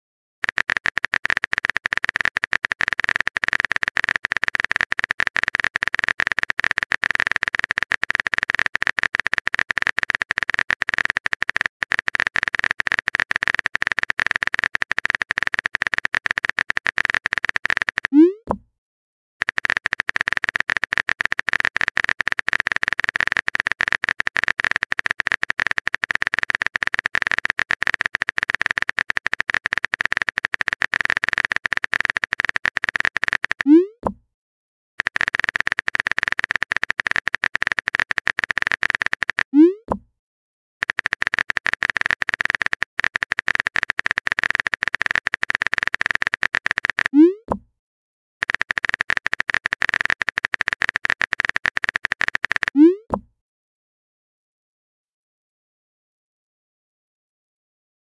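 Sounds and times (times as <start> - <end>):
typing clicks: 0.4 - 18.5, 19.4 - 34.2, 35.0 - 40.0, 40.8 - 47.6, 48.4 - 53.2.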